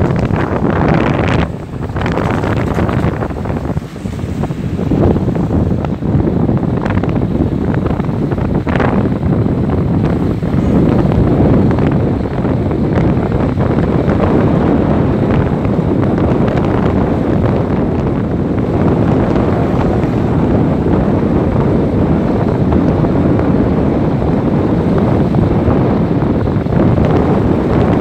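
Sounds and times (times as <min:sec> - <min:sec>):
vehicle rumble: 0:00.0 - 0:28.0
wind buffeting microphone: 0:00.0 - 0:28.0.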